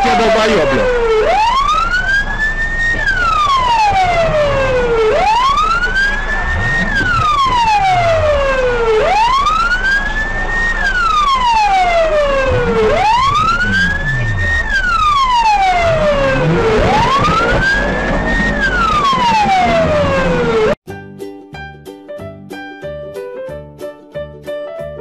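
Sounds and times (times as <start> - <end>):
siren wailing: 0.0 - 20.8.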